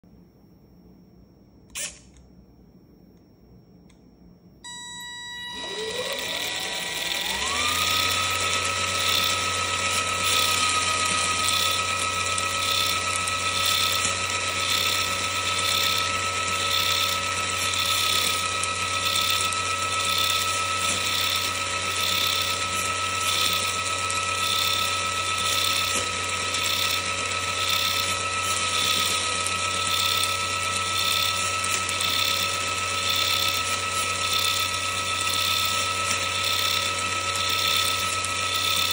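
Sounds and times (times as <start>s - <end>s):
electric motor and gear whine: 1.7s - 2.2s, 4.6s - 38.9s.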